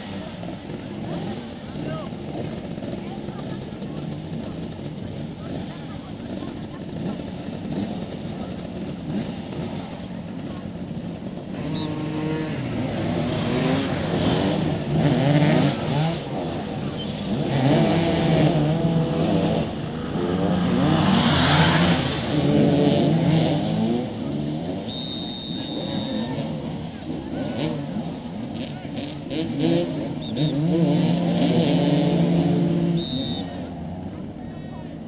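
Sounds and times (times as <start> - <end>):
motorcycles revving and accelerating: 0.0 - 35.0.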